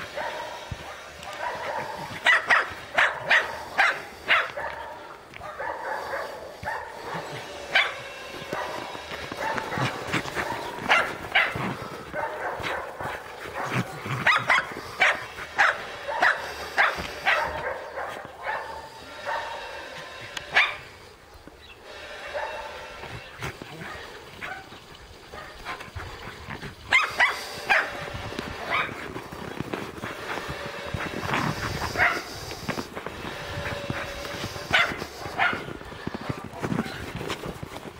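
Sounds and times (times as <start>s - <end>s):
dog barking: 0.0s - 20.9s, 22.2s - 23.1s, 23.7s - 25.8s, 26.9s - 29.1s, 30.4s - 32.4s, 33.2s - 37.0s.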